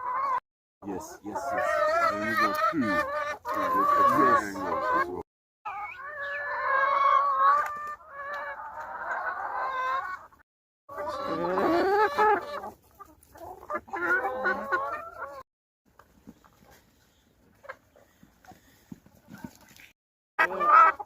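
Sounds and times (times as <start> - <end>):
chickens clucking and squawking: 0.0 - 15.4, 16.0 - 19.6, 20.4 - 21.0.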